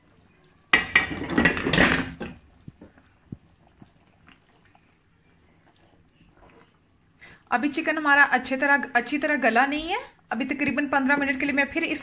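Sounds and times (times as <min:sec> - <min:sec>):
curry bubbling and sizzling: 0:00.0 - 0:12.0.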